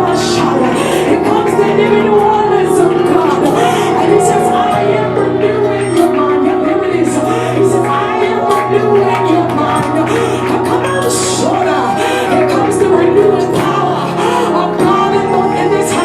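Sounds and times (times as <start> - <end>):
gospel worship music: 0.0 - 16.0
voices singing: 0.0 - 16.0.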